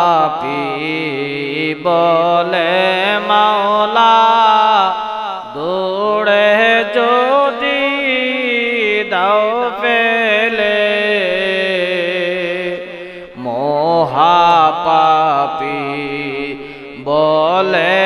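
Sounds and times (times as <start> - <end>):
man singing into microphone: 0.0 - 18.0.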